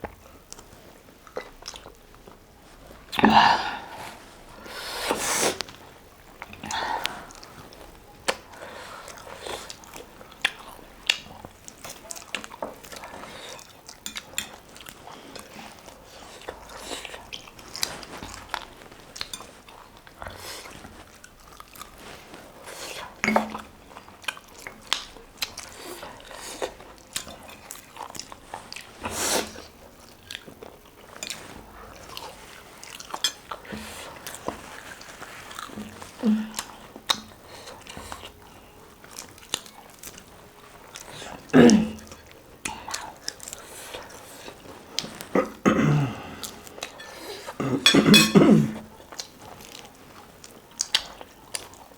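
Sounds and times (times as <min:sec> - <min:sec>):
biting and chewing food: 0:00.0 - 0:51.9.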